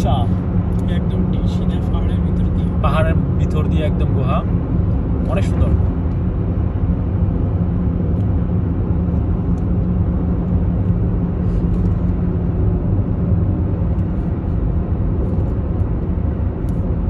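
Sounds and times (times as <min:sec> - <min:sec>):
car driving through tunnel: 0:00.0 - 0:17.0.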